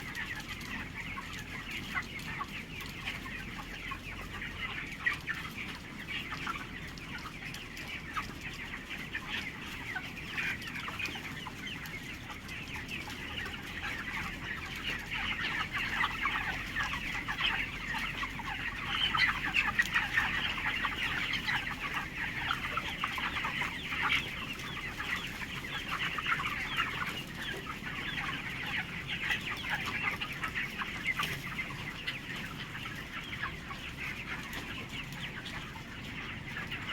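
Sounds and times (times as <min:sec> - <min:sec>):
chickens clucking and cheeping: 0:00.0 - 0:36.9.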